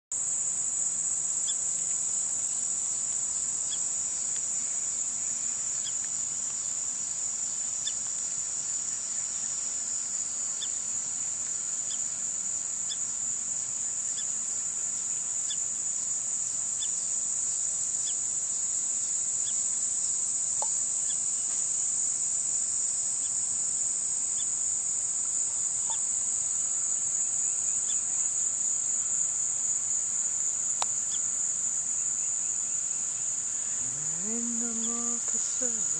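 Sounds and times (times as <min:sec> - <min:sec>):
insects chorus: 0:00.1 - 0:35.9.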